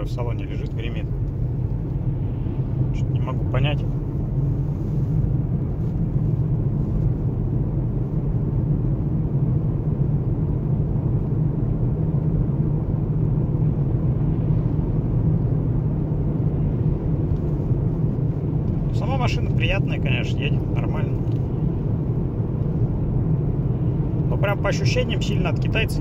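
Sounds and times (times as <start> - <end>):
tyre and road rumble in car: 0.0 - 26.0.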